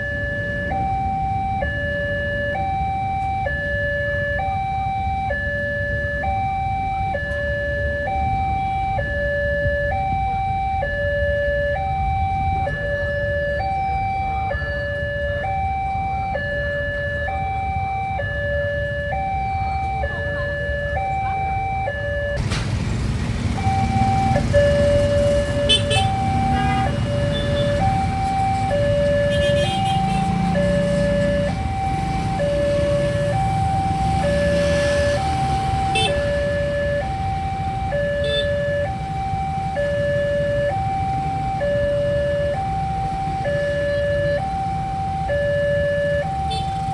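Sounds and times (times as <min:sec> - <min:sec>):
level-crossing two-tone alarm: 0:00.0 - 0:46.9.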